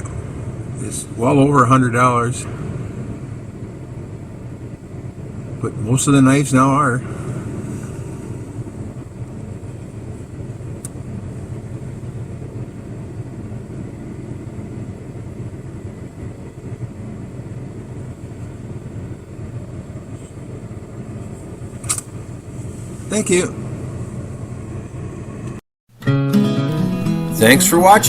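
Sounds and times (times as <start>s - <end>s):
traffic rumble: 0.0s - 25.6s, 27.3s - 28.0s.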